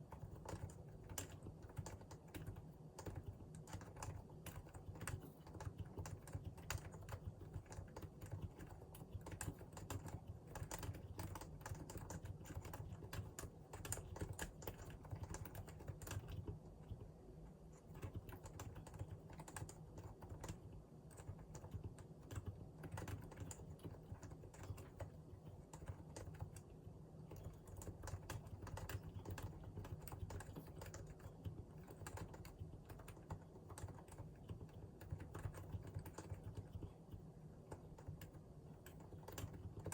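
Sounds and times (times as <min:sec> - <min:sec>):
fast typing on keyboard: 0:00.0 - 0:17.1, 0:17.8 - 0:39.9.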